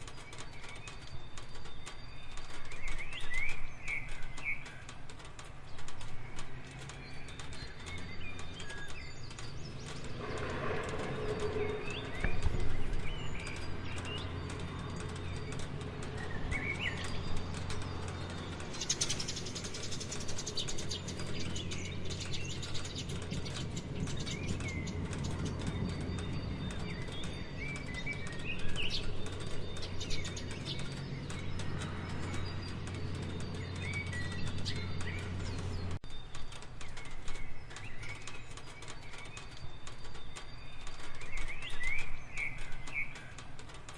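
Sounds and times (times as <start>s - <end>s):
rain pattering: 0.0s - 43.9s
small birds chirping: 0.0s - 43.9s.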